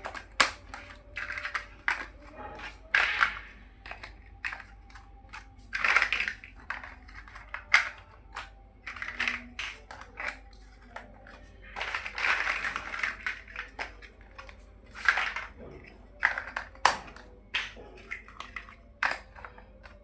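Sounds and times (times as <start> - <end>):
plastic bricks clicking: 0.0 - 20.0
plastic bricks rattling: 0.0 - 20.0.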